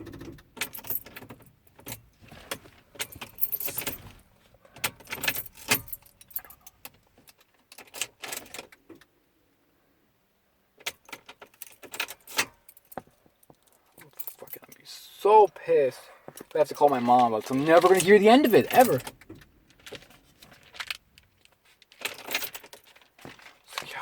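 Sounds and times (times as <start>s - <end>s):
car keys jangling: 0.0s - 9.1s, 10.8s - 15.0s, 16.3s - 24.0s.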